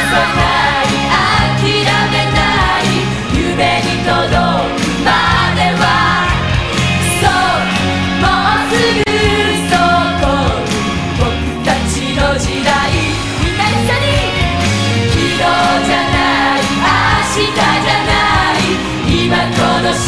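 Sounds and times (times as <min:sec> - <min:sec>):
band with steady bass: 0:00.0 - 0:20.0
vocal group singing pop song: 0:00.0 - 0:20.0.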